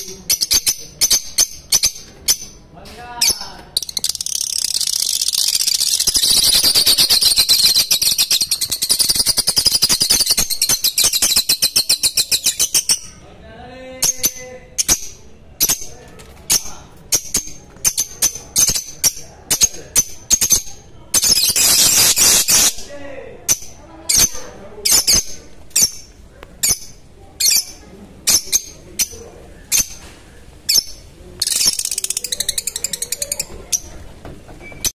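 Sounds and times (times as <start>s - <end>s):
lovebirds chattering and chirping: 0.0s - 34.9s.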